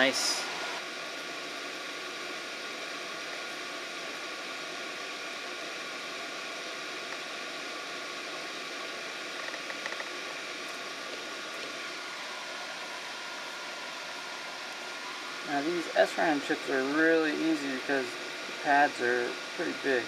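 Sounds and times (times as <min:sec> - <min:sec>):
faint high whine: 0:00.0 - 0:20.0
fan-like hiss: 0:00.0 - 0:20.0.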